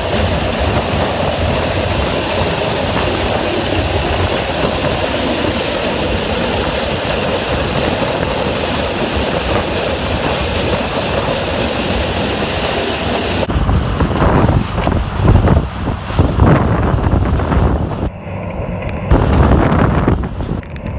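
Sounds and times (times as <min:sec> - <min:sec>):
harvesting machine running: 0:00.0 - 0:20.9
low engine rumble: 0:00.0 - 0:20.9
wind buffeting microphone: 0:00.0 - 0:20.9.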